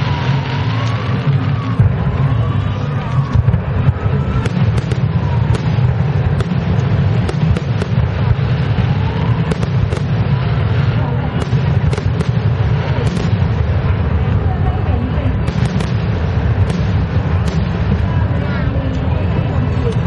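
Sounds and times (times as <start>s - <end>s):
fireworks cracks and pops: 0.0s - 20.0s
fireworks rumbling: 0.0s - 20.0s.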